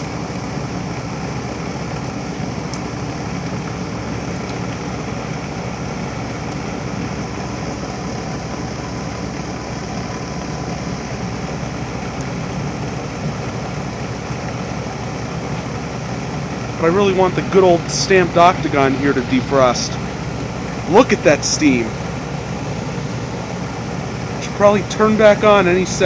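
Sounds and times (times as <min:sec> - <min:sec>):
heat pump units humming: 0:00.0 - 0:26.0.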